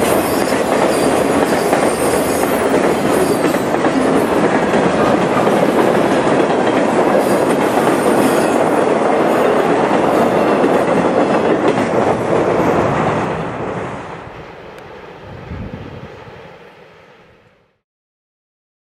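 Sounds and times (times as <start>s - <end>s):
freight train wheels rolling on rails: 0.0s - 17.6s.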